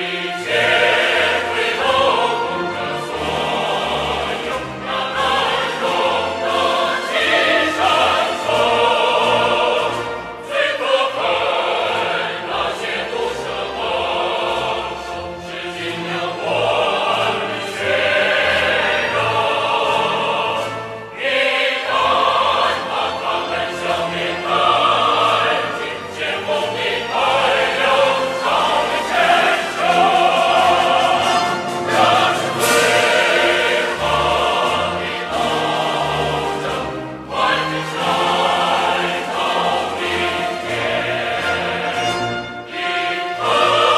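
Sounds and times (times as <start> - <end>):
music with choir singing: 0.0 - 43.9.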